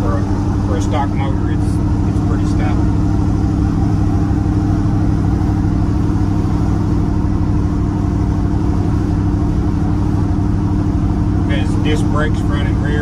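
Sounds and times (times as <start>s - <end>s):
road noise inside cab: 0.0s - 13.0s
truck engine drone: 0.0s - 13.0s.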